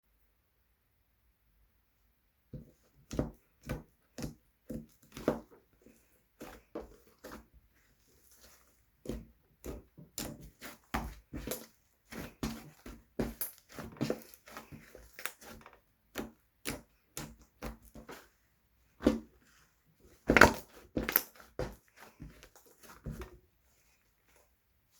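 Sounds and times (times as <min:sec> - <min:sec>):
slime squishing by hand: 0:02.6 - 0:24.9.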